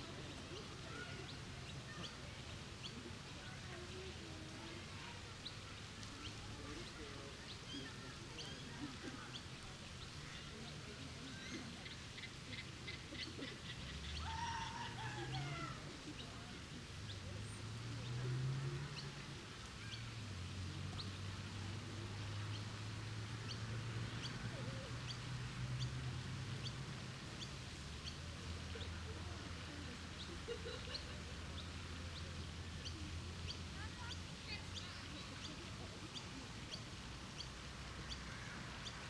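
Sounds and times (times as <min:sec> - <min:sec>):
small birds chirping: 0:00.1 - 0:39.0.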